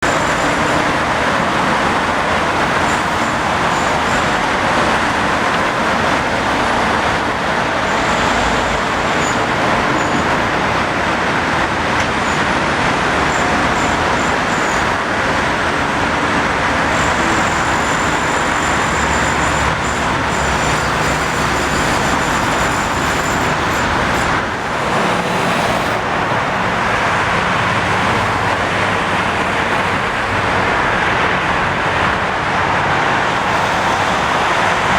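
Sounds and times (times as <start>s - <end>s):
traffic rumble: 0.0s - 34.9s.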